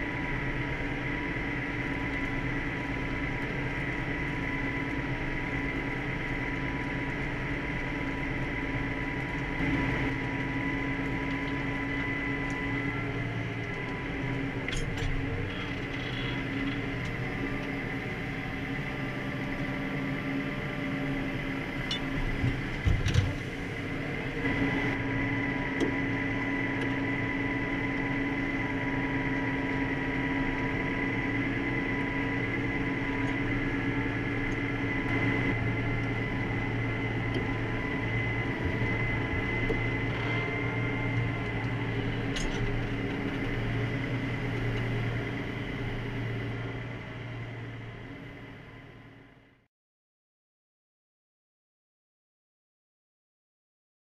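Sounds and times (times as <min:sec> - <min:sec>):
tractor engine drone with whine: 0:00.0 - 0:49.7.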